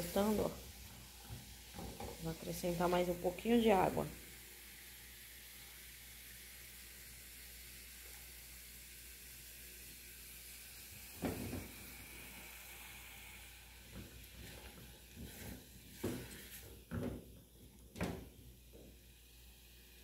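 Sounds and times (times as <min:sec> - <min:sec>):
sausage sizzling in a pot: 0:00.0 - 0:20.0.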